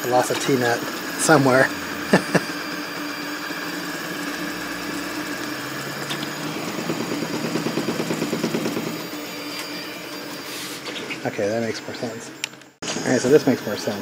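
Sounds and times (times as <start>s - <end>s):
steady hum: 0.0s - 14.0s
stepper motors whirring: 0.0s - 14.0s.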